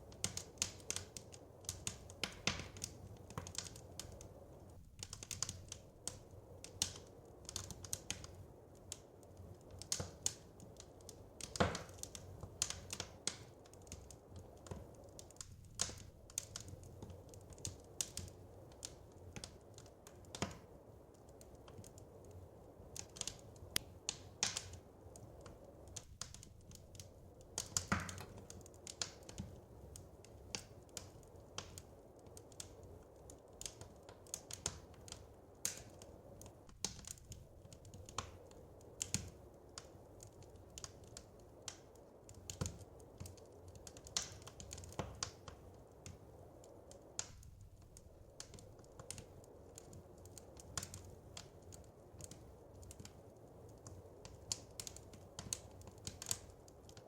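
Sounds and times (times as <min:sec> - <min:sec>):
soft steady hiss: 0:00.0 - 0:57.0
wood fire crackling and popping: 0:00.0 - 0:57.0.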